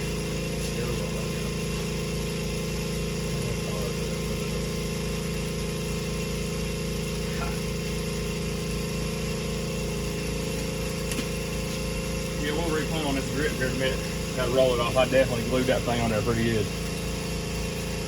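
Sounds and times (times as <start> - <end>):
motor humming steadily: 0.0 - 18.0.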